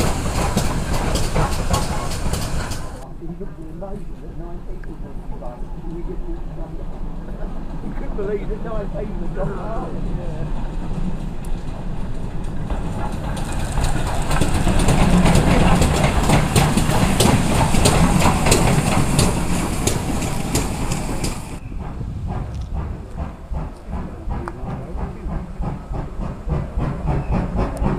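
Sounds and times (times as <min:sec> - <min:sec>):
wheels clicking on rails: 0:00.0 - 0:03.1, 0:04.8 - 0:27.9
steam locomotive passing: 0:00.0 - 0:27.9.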